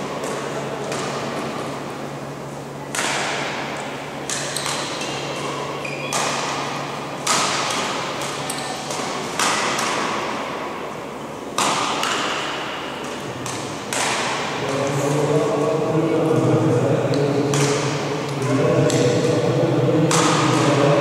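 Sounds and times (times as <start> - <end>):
rackets striking shuttlecocks: 0.0 - 1.8, 2.8 - 14.8, 17.1 - 21.0
steady low hum: 0.0 - 21.0.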